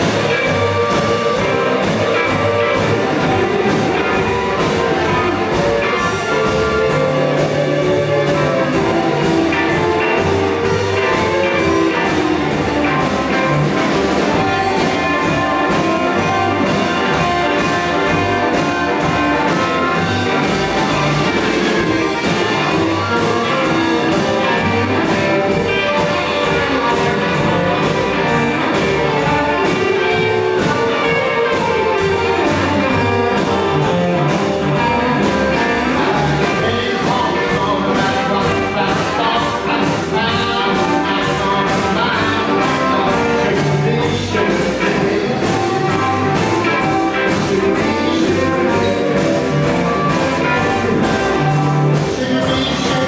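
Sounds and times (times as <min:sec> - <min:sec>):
blues band playing: 0:00.0 - 0:53.0
harmonica: 0:00.0 - 0:53.0.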